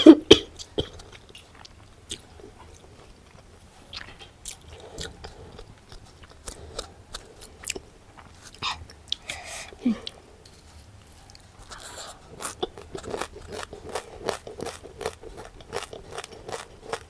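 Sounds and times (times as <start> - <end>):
person chewing with crisp crunches: 0.4 - 17.0.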